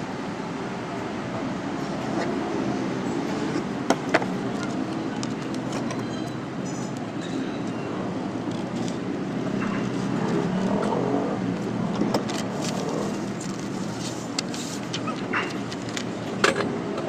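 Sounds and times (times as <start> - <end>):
motor vehicle rumbling: 0.0 - 17.0.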